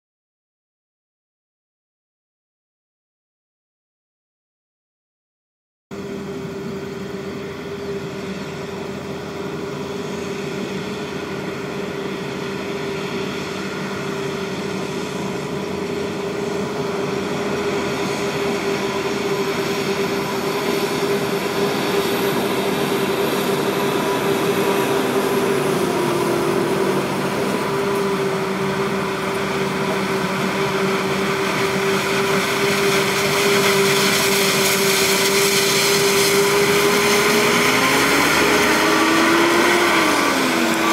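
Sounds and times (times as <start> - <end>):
forage harvester machine drone: 5.9 - 40.9.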